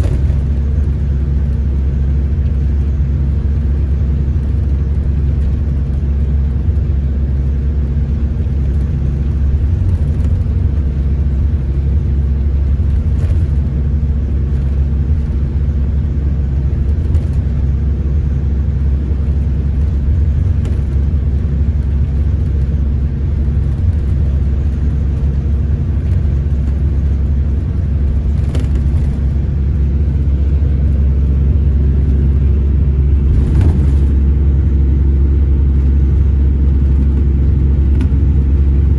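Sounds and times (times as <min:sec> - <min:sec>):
diesel engine rumble: 0:00.0 - 0:38.9
road noise: 0:00.0 - 0:38.9.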